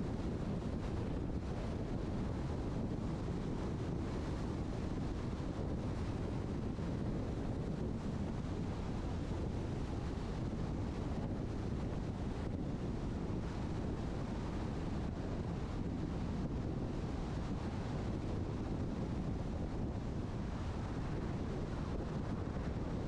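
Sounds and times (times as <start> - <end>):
car tyre and wind noise: 0.0 - 23.0.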